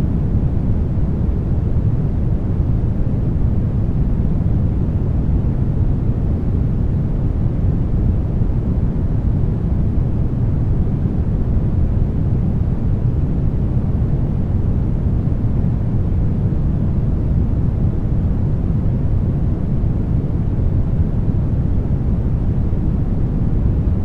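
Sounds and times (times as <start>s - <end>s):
brown noise rumble: 0.0s - 24.0s.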